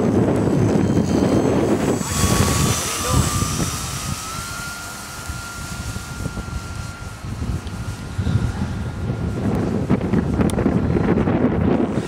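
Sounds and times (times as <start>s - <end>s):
model plane motor and propeller: 0.0s - 12.0s
wind buffeting microphone: 0.0s - 12.0s.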